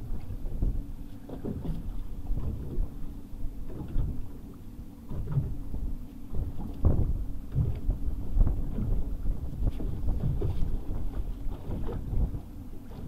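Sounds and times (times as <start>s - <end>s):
boat engine hum: 0.0s - 13.0s
wind and water buffeting: 0.0s - 13.0s.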